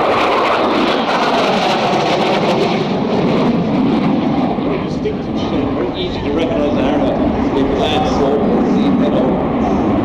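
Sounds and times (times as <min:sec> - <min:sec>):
jet engine roar: 0:00.0 - 0:10.0.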